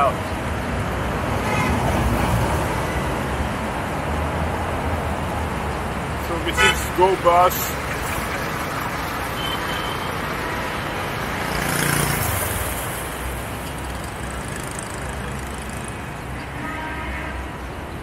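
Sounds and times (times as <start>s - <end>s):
road noise: 0.0s - 18.0s
vehicle passing close: 1.1s - 16.4s.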